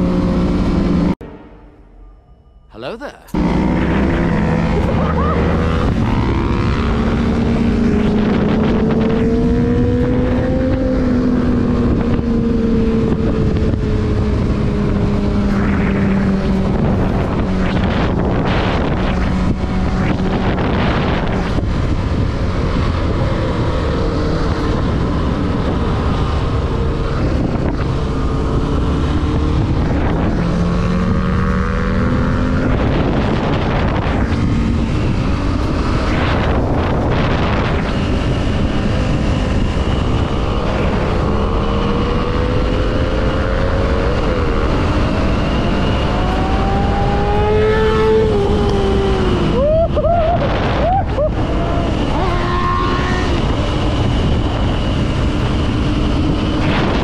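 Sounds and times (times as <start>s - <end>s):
wind noise on microphone: 3.3s - 57.0s.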